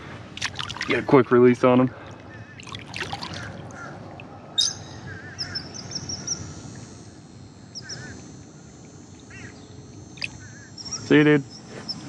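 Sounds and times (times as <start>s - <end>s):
birds chirping: 0.0s - 12.0s
water and wind noise: 0.0s - 12.0s.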